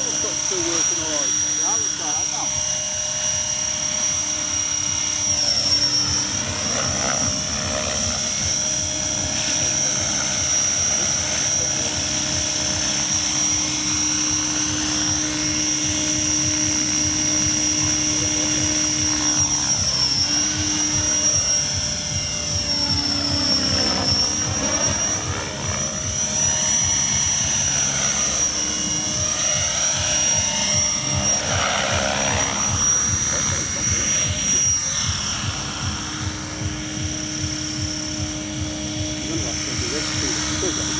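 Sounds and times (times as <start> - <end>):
model helicopter whine and drone: 0.0 - 40.9.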